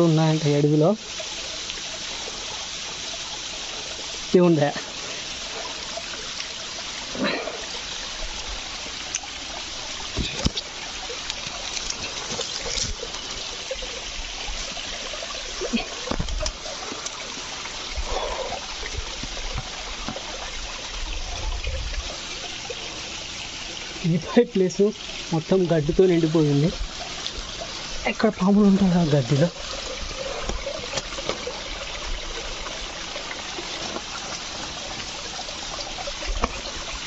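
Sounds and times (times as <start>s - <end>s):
water trickling among rocks: 0.0s - 37.0s.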